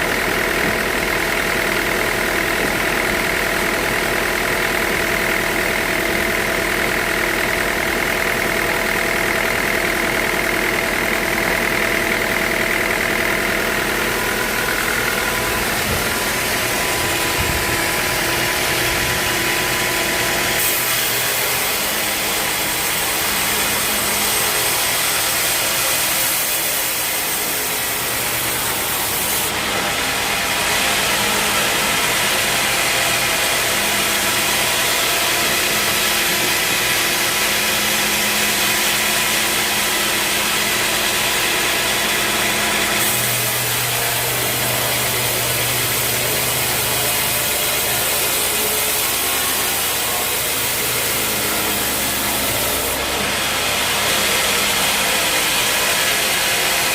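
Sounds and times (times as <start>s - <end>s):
bandsaw sawing through log: 0.0s - 56.9s.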